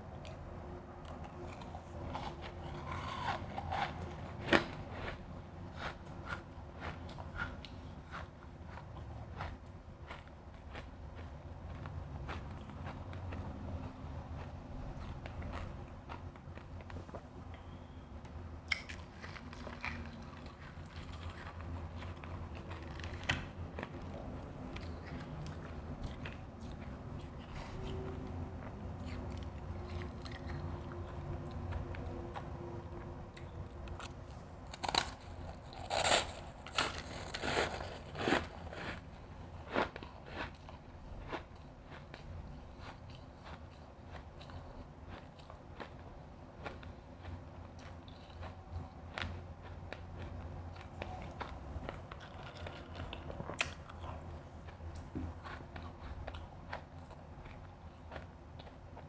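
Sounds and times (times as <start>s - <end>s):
chewing crushed ice: 0.2s - 17.2s, 18.7s - 32.6s, 33.4s - 59.0s.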